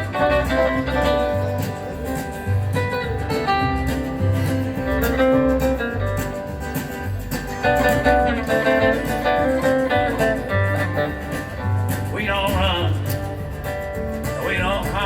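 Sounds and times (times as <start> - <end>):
lead guitar melody: 0.0 - 14.9
bass notes: 0.0 - 15.0
drums: 0.0 - 15.0.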